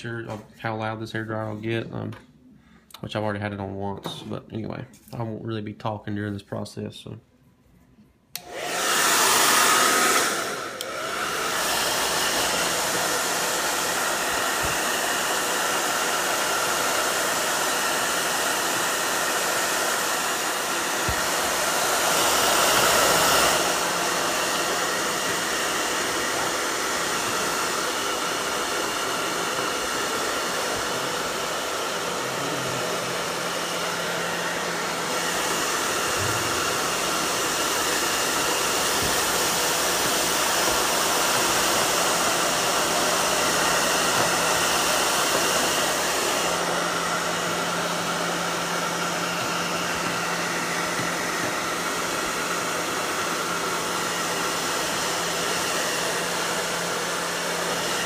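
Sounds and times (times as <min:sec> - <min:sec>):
hair dryer blowing: 0:08.3 - 0:58.0.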